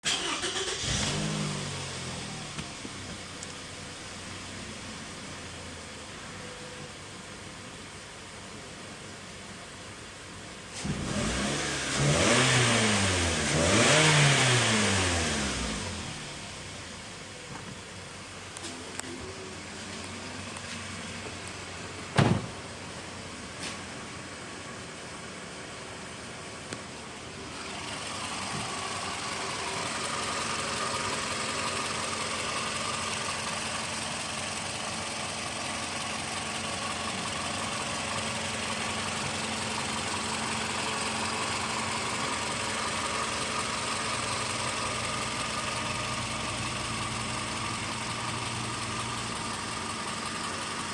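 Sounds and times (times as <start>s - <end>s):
car engine idling: 0.0s - 10.7s, 14.9s - 50.9s.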